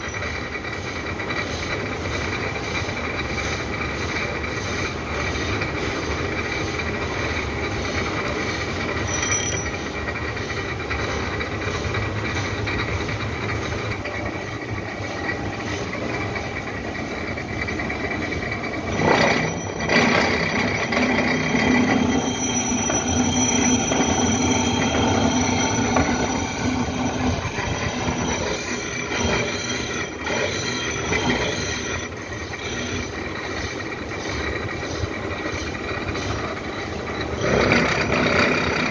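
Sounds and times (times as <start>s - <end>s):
milling machine cutting metal: 3.5s - 38.9s.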